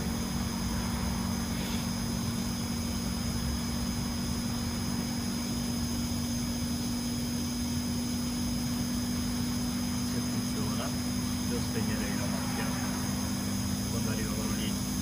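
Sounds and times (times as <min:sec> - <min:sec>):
air conditioner unit humming: 0:00.0 - 0:15.0
high-pitched whine: 0:00.0 - 0:15.0.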